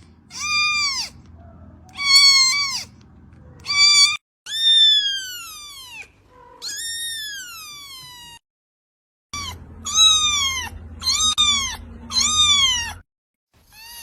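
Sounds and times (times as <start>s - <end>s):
kittens meowing: 0.2s - 8.4s, 9.4s - 13.0s.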